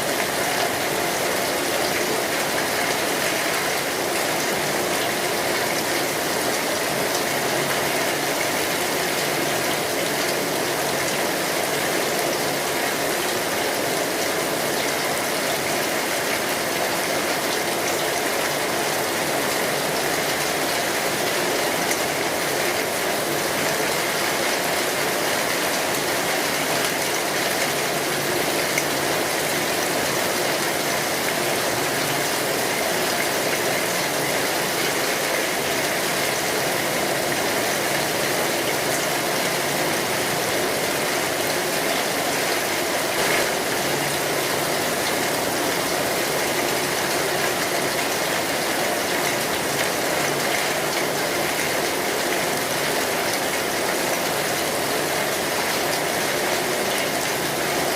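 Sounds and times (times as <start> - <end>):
rain drumming on metal roof: 0.0 - 57.9.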